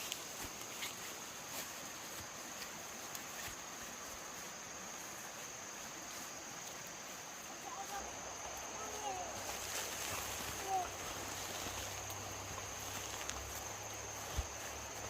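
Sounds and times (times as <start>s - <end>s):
insects droning: 0.0s - 15.0s
soft outdoor background noise: 0.0s - 15.0s.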